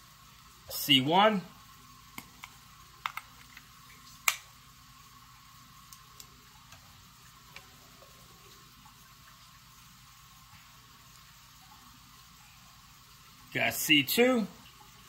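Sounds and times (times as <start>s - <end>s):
faint steady background hum: 0.0s - 15.0s.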